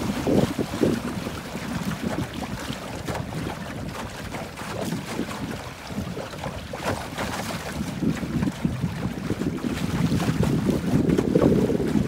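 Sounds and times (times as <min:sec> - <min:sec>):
water slapping along a boat hull: 0:00.0 - 0:12.0
water splash: 0:00.0 - 0:12.0
wind buffeting microphone: 0:00.0 - 0:12.0.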